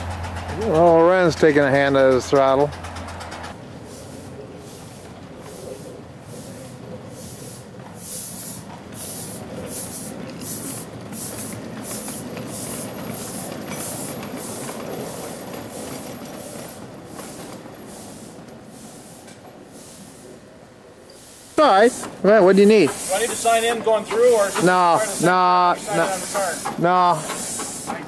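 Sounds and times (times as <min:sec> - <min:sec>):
steam locomotive exhaust chuffing: 0:00.0 - 0:28.0
steam hissing: 0:03.7 - 0:28.0.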